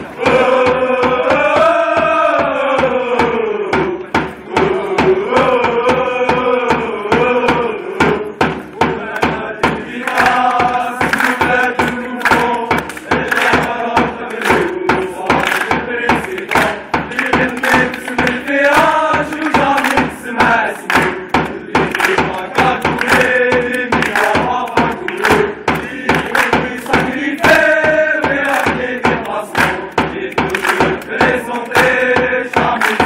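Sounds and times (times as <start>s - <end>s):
crowd chanting in unison: 0.0s - 33.0s
drum beats: 0.0s - 33.0s
rhythmic hand clapping: 0.0s - 33.0s.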